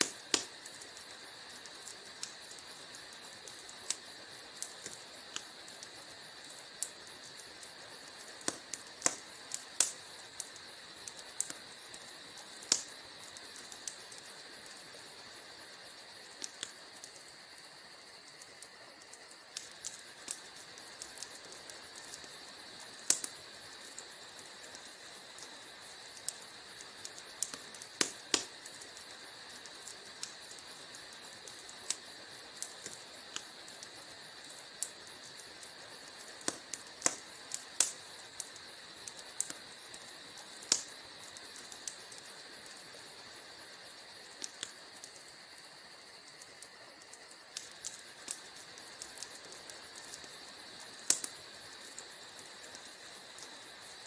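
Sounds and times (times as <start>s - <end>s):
faint hiss: 0.0s - 54.0s
wood fire crackling: 0.0s - 54.0s.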